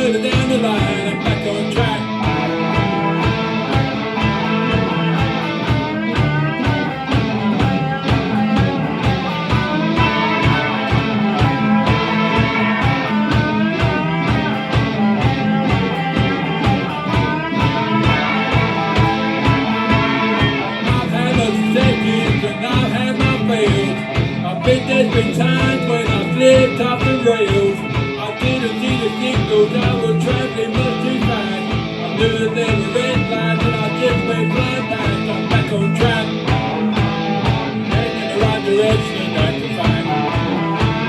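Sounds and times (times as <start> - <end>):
electric guitars playing: 0.0 - 41.0
fast drum beat: 0.0 - 41.0.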